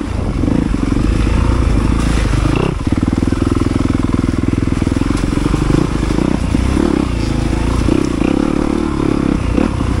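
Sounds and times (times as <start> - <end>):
dirt bike engine revving: 0.2 - 10.0.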